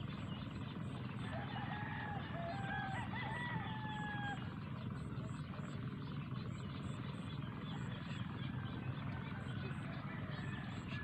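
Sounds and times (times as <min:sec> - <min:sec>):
distant animal call: 0:00.0 - 0:11.0
outdoor rumble and hiss: 0:00.0 - 0:11.0.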